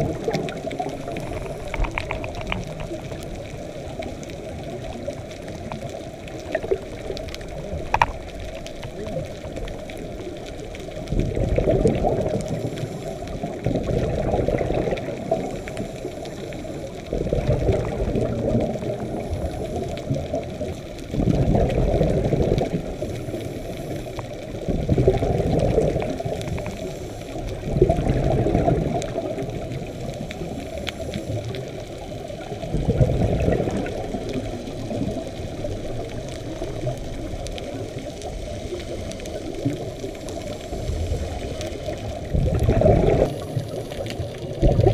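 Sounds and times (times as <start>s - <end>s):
exhaled bubbles underwater: 0.0s - 44.9s
underwater wash: 0.0s - 44.9s.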